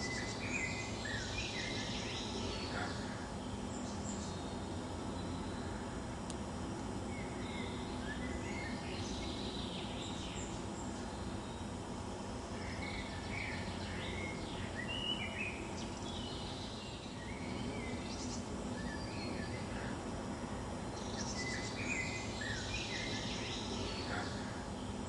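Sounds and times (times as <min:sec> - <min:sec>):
birds chirping: 0:00.0 - 0:06.1, 0:07.0 - 0:25.0
outdoor background noise: 0:00.0 - 0:25.0.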